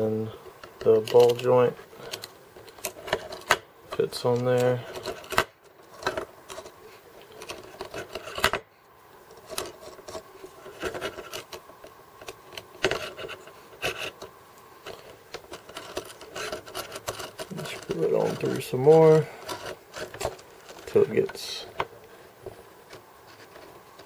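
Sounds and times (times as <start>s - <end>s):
parts rubbing and clicking: 0.3s - 8.6s, 9.2s - 24.0s.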